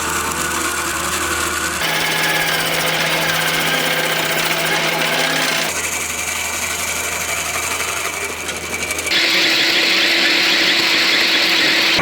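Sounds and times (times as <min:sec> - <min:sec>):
stump grinder engine running: 0:00.0 - 0:12.0.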